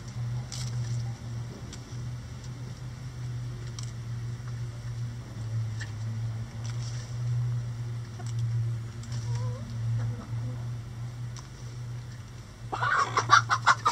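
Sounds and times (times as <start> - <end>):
chickens pecking cabbage: 0.0 - 13.9
steady low hum: 0.0 - 13.9.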